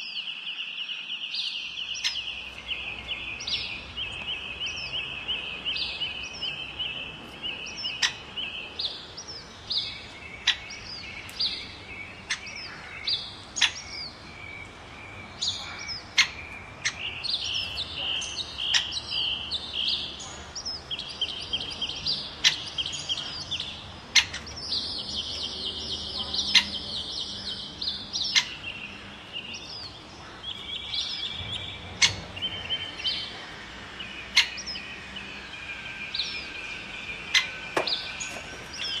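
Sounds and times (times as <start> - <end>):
birds chirping and trilling: 0.0 - 39.0.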